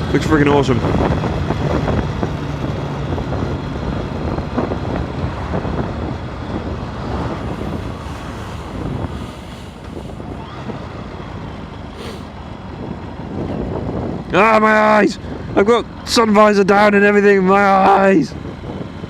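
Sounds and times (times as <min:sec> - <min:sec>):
wind rumbling on microphone: 0:00.0 - 0:16.3, 0:18.2 - 0:19.0
motorcycle engine at low speed: 0:00.0 - 0:19.0.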